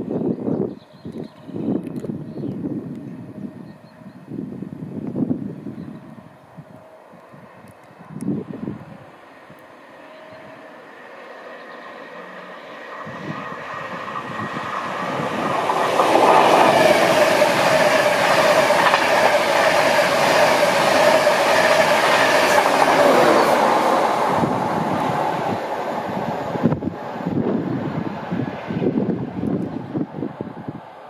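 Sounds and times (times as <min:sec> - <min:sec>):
express train passing at speed: 0:00.0 - 0:31.0.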